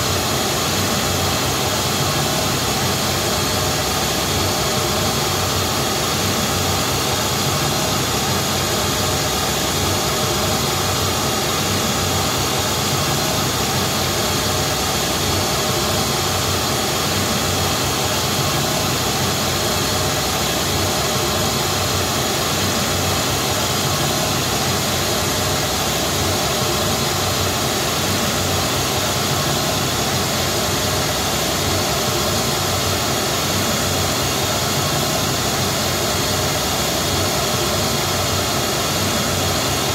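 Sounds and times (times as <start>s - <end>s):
pink noise through loudspeakers: 0.0s - 39.9s.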